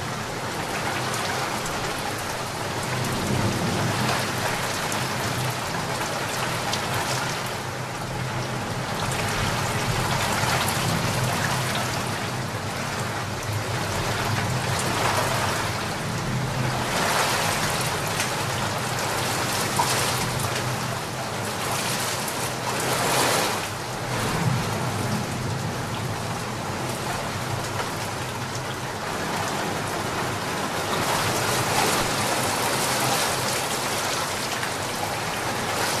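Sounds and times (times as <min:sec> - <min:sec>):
rain falling on a pond: 0:00.0 - 0:36.0.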